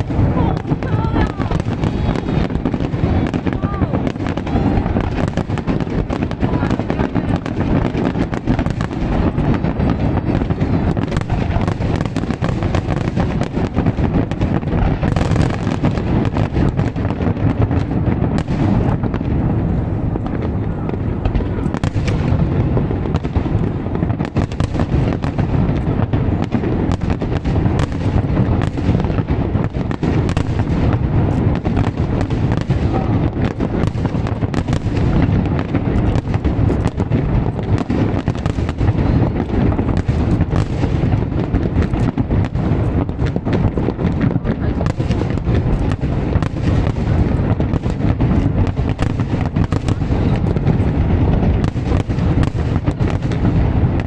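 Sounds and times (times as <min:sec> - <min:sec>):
deep fireworks booms: 0:00.0 - 0:54.0
fireworks bursts and crackling: 0:00.0 - 0:54.0.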